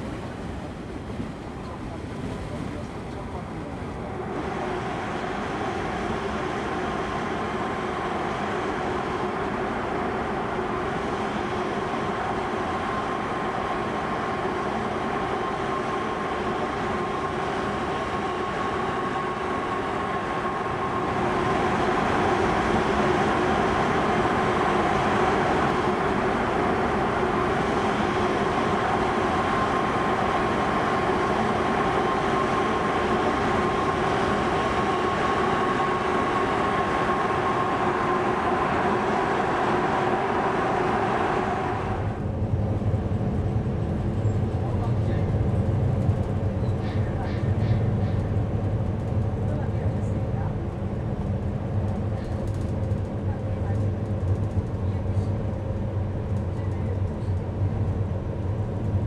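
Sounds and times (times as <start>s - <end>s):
steady rushing rumble: 0.0s - 59.0s.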